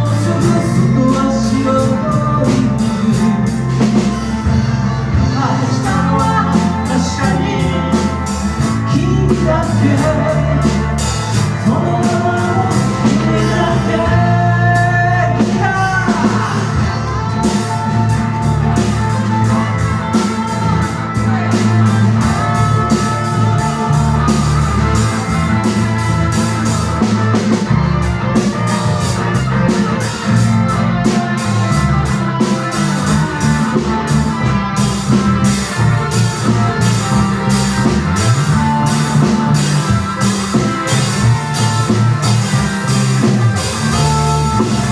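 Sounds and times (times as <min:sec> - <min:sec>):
drum kit beat: 0:00.0 - 0:44.9
live rock band playing: 0:00.0 - 0:44.9
sliding lead melody: 0:00.0 - 0:44.9.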